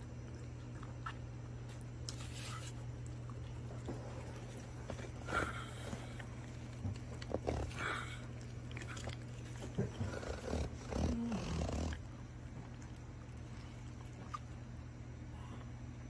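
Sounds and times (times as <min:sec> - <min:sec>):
dog chewing wetly: 0:00.0 - 0:15.0.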